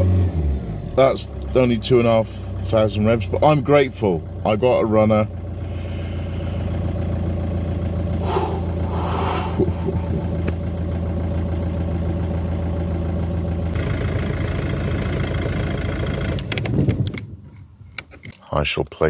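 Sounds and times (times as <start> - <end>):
van engine running: 0.0 - 17.9.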